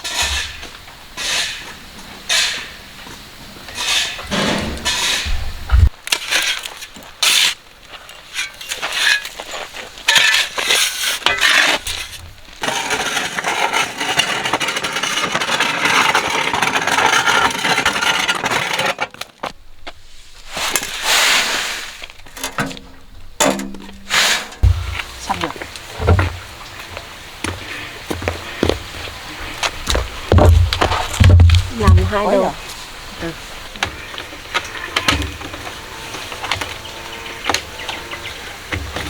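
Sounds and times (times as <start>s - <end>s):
rough scraping and knocks: 0.0s - 7.6s, 8.2s - 39.0s.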